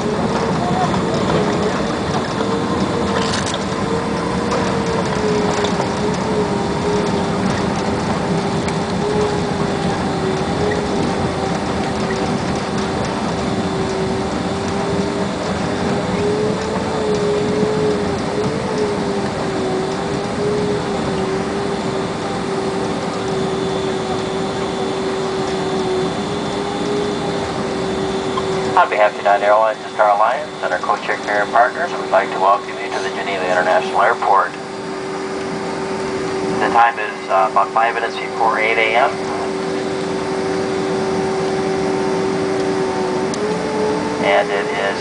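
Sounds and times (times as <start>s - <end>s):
airplane cabin drone: 0.0s - 45.0s
wavering mid-pitched whine: 0.0s - 45.0s.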